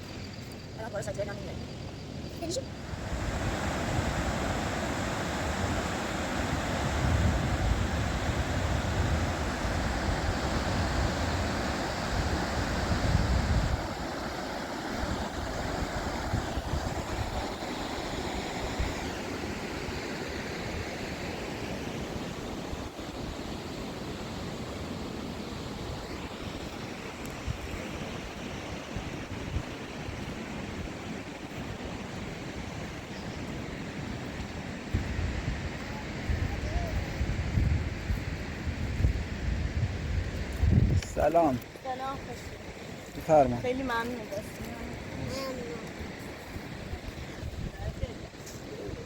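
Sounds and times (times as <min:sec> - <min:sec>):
wind buffeting microphone: 0:02.2 - 0:20.0, 0:22.0 - 0:49.0.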